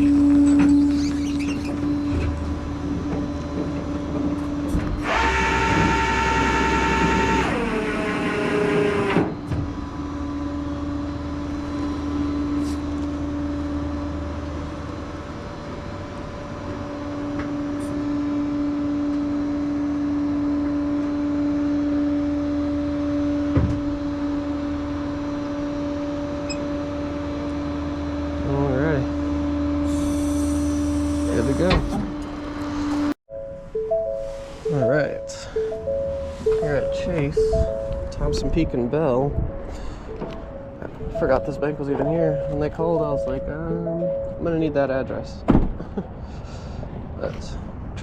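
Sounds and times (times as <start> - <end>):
loud pitched whine: 0.0 - 45.4
truck engine hum and rumble: 0.0 - 48.0.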